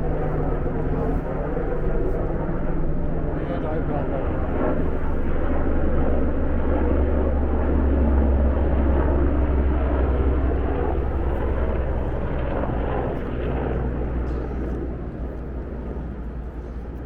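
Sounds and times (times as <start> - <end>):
helicopter rumbling overhead: 0.0 - 17.0.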